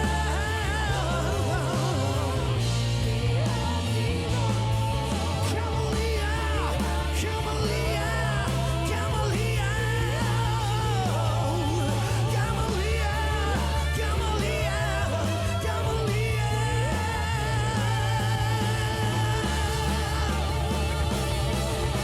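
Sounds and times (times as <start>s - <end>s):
lead vocal singing: 0.0s - 22.0s
live band playing pop-rock: 0.0s - 22.0s.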